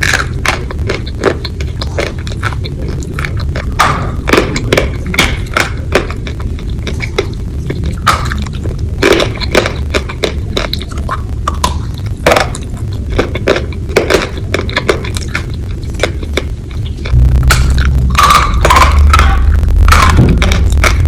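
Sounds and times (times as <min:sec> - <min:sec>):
crunchy food being chewed: 0:00.0 - 0:21.0
steady low hum: 0:00.0 - 0:21.0.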